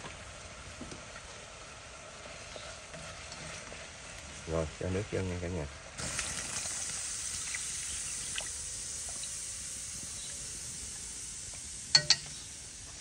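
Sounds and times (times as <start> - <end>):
pot sizzling and hissing: 0.0 - 13.0.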